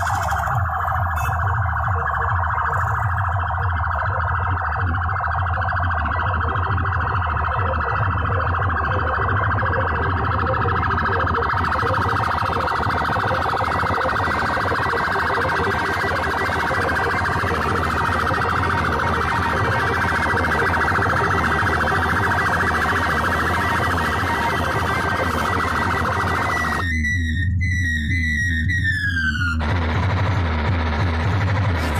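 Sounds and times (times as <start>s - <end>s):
low drone: 0.0s - 31.9s
warbling siren wail: 0.0s - 31.9s.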